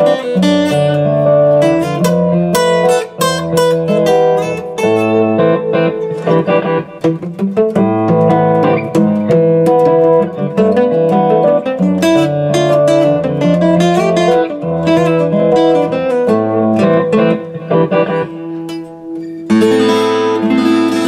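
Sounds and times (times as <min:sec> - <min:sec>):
acoustic guitar picked melody: 0:00.0 - 0:21.0.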